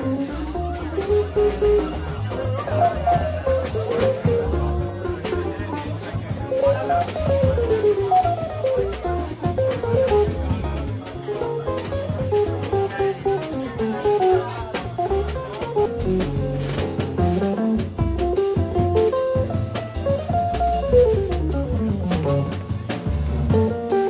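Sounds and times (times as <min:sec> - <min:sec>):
drum kit cymbals: 0:00.0 - 0:24.0
upright double bass: 0:00.0 - 0:24.0.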